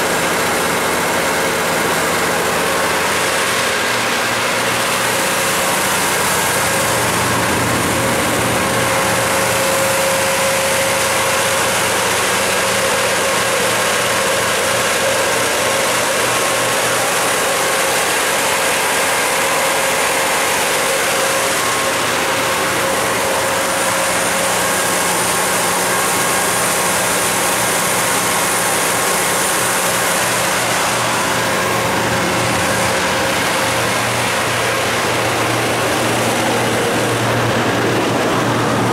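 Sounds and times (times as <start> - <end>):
generator engine running: 0.0 - 38.9
radiator fan rushing: 0.0 - 38.9.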